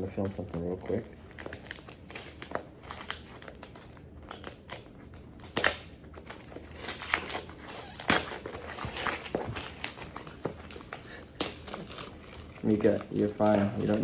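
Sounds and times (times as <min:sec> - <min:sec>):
packaging crinkling: 0:00.1 - 0:14.0.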